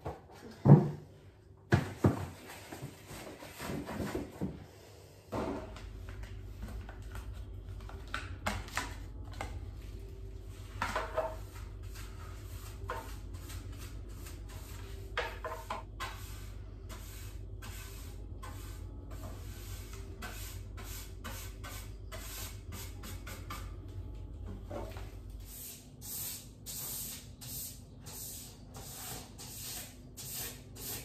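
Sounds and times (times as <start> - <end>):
steady low hum: 3.8 - 31.0.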